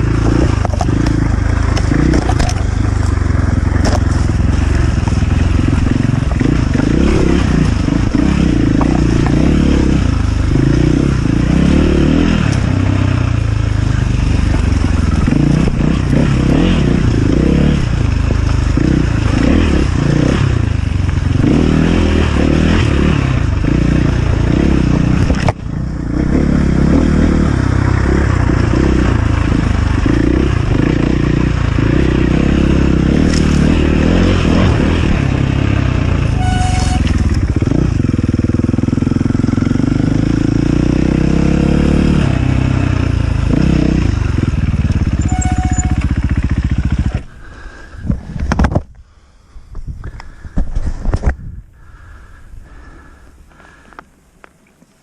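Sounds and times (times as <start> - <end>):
motorcycle engine revving: 0.0 - 49.5.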